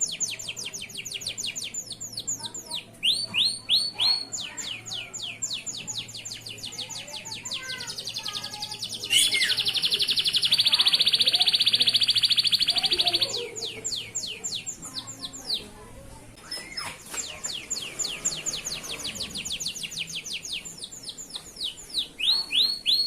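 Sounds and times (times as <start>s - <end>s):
fast rolling bird trill: 0.0s - 15.6s, 16.4s - 23.0s
canary singing: 0.0s - 23.0s.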